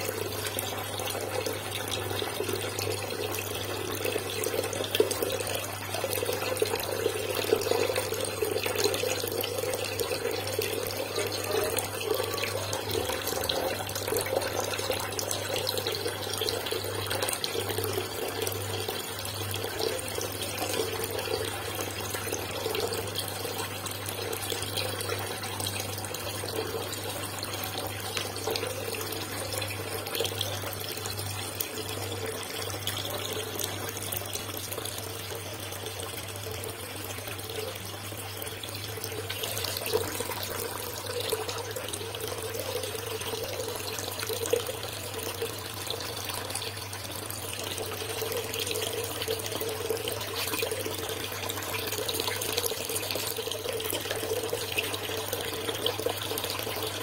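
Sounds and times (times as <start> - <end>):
aquarium water running: 0.0 - 57.0
low pump hum: 0.0 - 57.0.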